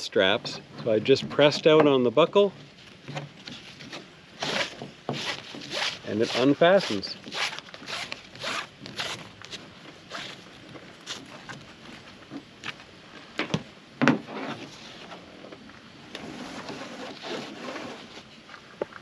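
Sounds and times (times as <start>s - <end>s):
strap rustling and scraping on hull: 0.2s - 19.0s.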